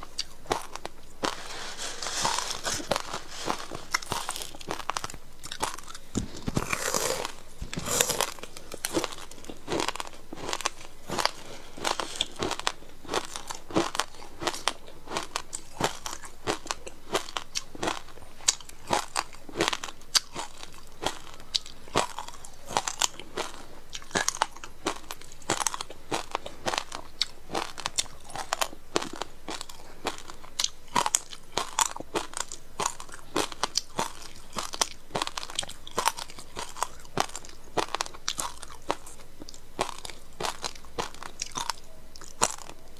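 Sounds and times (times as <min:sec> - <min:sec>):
ice crunching while chewed: 0:00.0 - 0:42.9.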